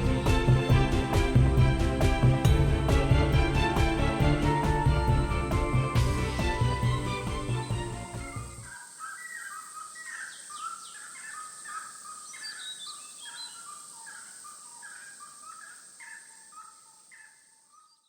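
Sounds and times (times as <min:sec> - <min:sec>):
high-pitched hiss: 0:00.0 - 0:17.8
birds calling: 0:00.0 - 0:18.0.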